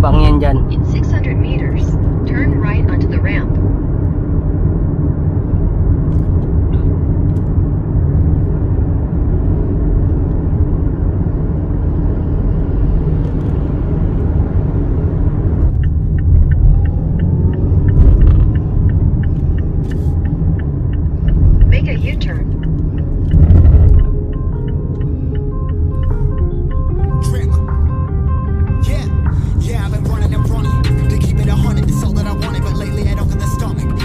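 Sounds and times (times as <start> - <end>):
turn signal ticking: 0.0 - 11.8, 12.4 - 34.0
road and engine rumble: 0.0 - 34.0.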